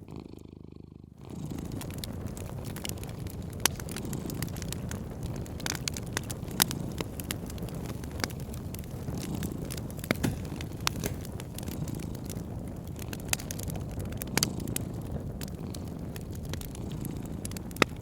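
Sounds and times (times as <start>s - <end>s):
wood fire crackling and popping: 1.1s - 18.0s.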